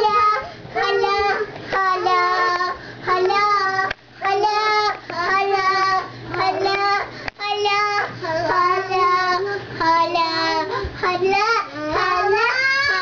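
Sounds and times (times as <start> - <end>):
child singing long notes: 0.0 - 13.0.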